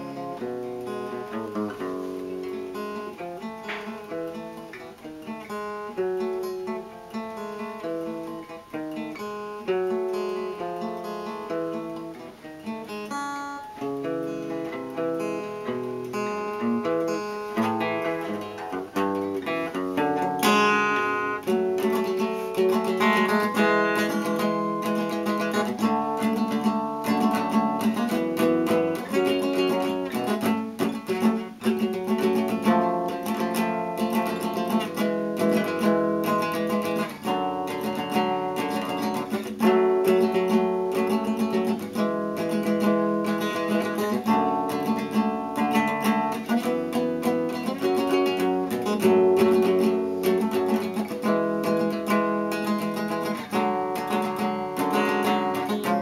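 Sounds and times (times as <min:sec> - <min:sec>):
acoustic guitar: 0:00.0 - 0:56.0.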